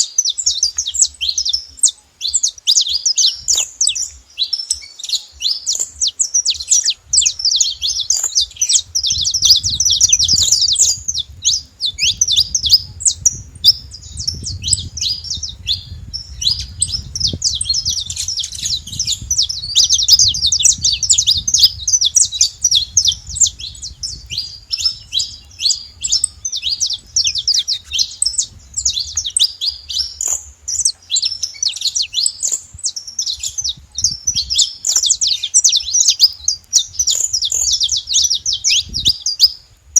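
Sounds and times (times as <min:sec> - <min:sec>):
finch singing chirps and trills: 0:00.0 - 0:39.9.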